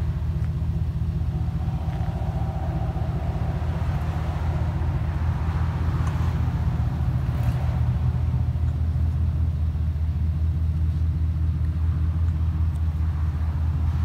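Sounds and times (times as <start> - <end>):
pickup truck engine idling: 0.0 - 14.0.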